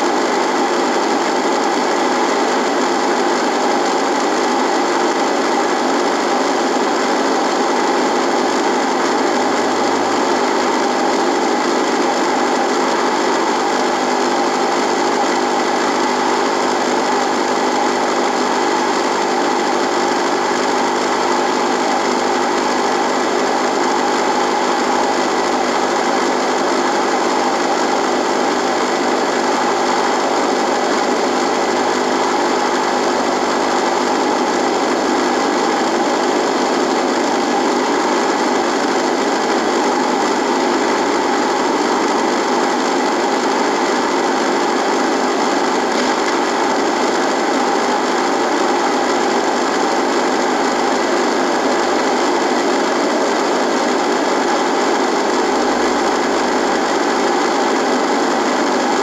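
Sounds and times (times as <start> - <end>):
radio electrical buzz: 0.0 - 59.0.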